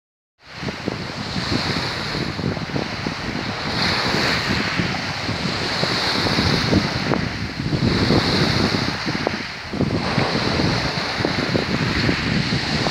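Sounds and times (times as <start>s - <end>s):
waves washing: 0.4s - 12.9s
wind buffeting microphone: 0.4s - 12.9s.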